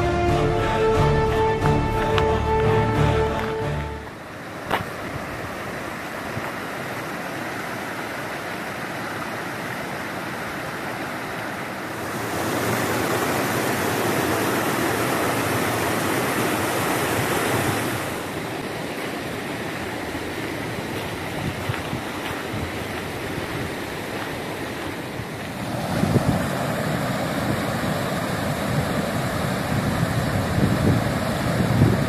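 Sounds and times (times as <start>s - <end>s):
rushing stream and waterfall: 0.0s - 32.0s.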